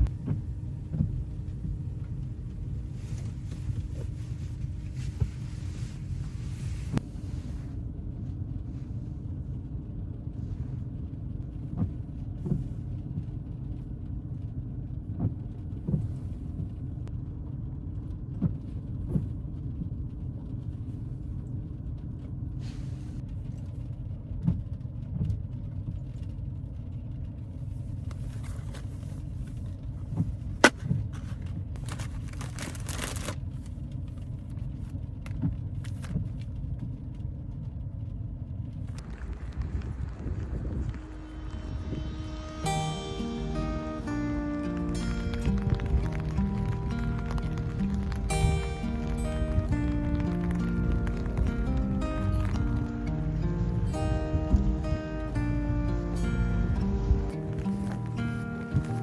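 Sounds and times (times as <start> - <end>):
road rumble inside car: 0.0 - 59.0.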